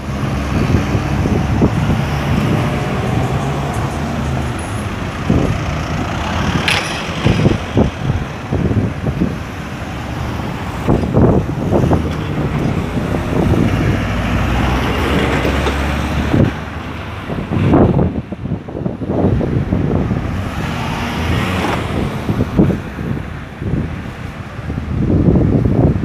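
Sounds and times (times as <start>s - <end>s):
vehicles driving past: 0.0s - 26.0s.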